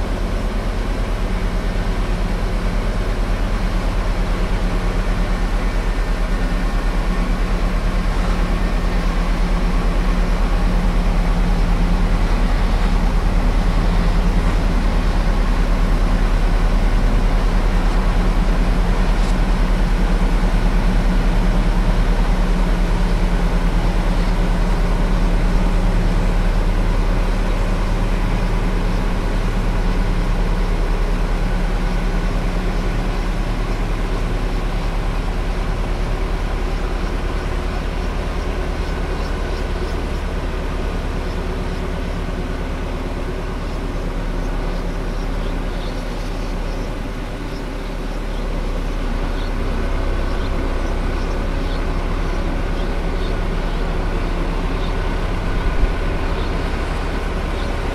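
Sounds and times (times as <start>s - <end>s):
heavy vehicle engine running: 0.0s - 57.9s.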